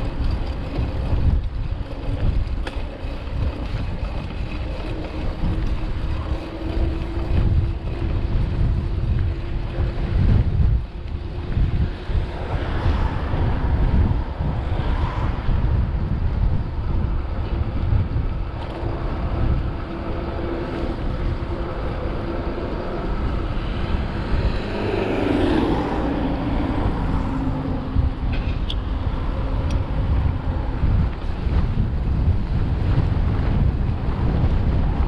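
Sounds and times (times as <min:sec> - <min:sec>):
motor vehicle passing: 0:00.0 - 0:35.0
road noise: 0:00.0 - 0:35.0
wind rumbling on microphone: 0:00.0 - 0:35.0.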